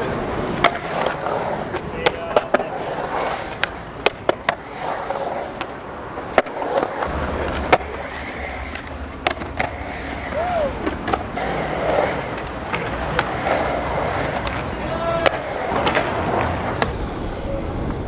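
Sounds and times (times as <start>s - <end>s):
skateboard clacking on coping: 0.0s - 17.0s
skateboard wheels rolling on concrete: 0.0s - 18.0s.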